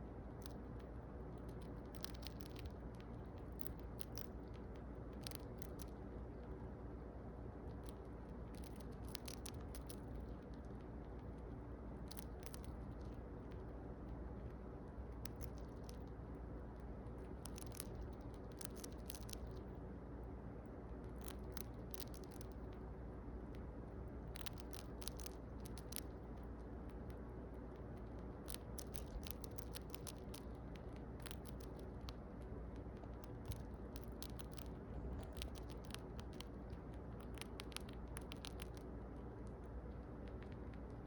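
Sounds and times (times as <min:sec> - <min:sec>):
rat crunching a treat: 0:00.0 - 0:41.0
steady low hum: 0:00.0 - 0:41.0.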